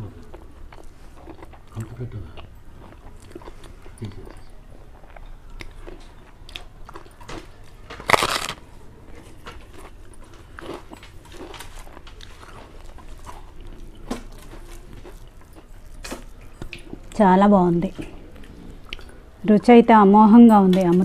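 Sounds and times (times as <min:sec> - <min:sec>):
person chewing rice: 0:00.0 - 0:17.2, 0:17.9 - 0:19.3.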